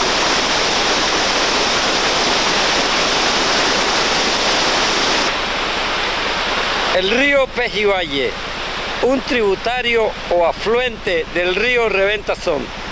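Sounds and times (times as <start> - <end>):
whitewater river rushing: 0.0 - 12.9.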